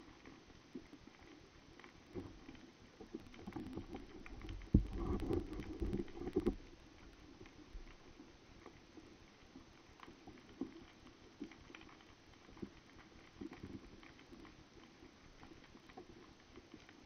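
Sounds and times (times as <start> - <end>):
faint underwater crackling: 0.0 - 17.0
small clicks and ticks: 0.0 - 17.0.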